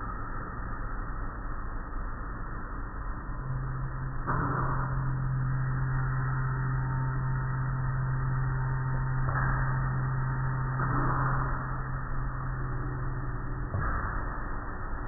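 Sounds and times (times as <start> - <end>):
low motor hum: 2.6 - 15.0.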